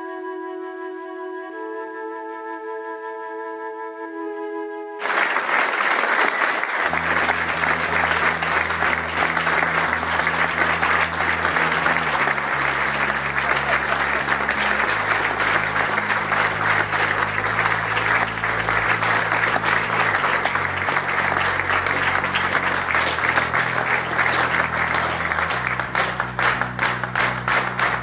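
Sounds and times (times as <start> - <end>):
music with low sustained notes: 0.0 - 5.0, 6.9 - 28.0
crowd applauding: 5.0 - 28.0.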